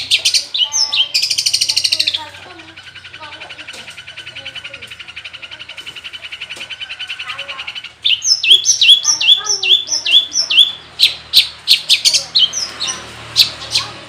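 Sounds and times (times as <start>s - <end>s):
shrike singing: 0.0s - 14.0s.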